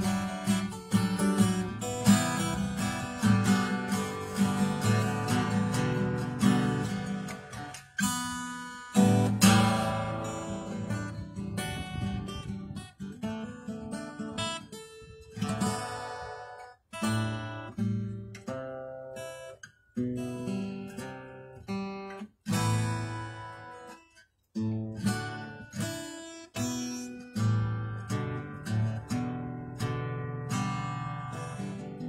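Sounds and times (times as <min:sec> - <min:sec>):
acoustic guitar chords strummed: 0:00.0 - 0:32.0.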